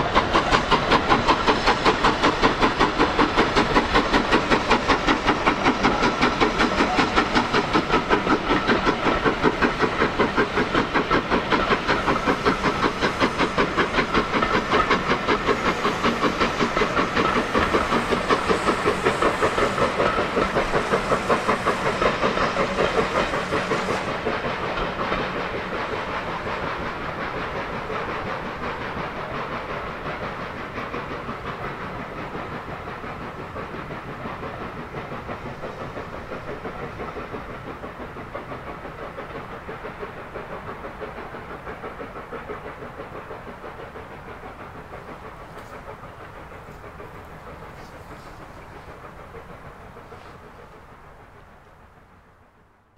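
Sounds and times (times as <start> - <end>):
steam locomotive exhaust beats: 0.0 - 52.9.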